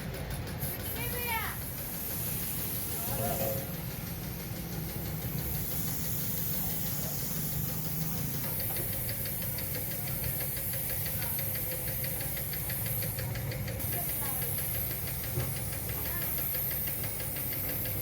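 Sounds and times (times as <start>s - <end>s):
rapid even ticking: 0.3s - 18.0s
machine humming: 1.0s - 18.0s.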